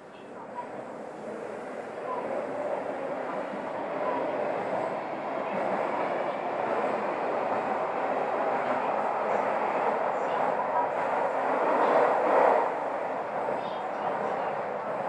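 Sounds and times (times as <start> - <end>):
subway train wheel and rail noise: 0.0 - 15.0.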